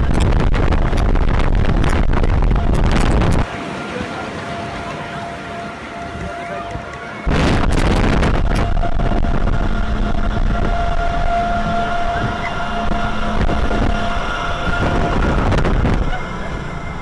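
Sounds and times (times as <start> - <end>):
high whine: 0.0 - 17.0
roller coaster rumbling on track: 0.0 - 17.0.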